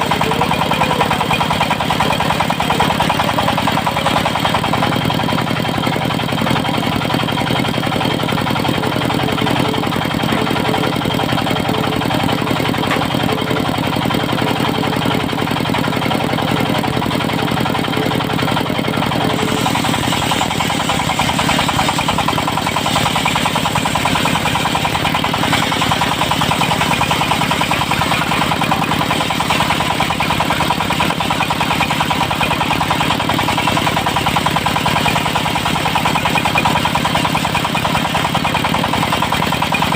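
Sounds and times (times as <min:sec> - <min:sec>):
diesel engine of sawmill: 0:00.0 - 0:39.9.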